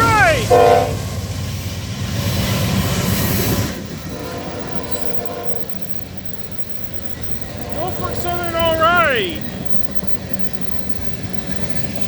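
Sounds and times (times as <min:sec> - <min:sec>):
freight train passing: 0:00.0 - 0:12.0.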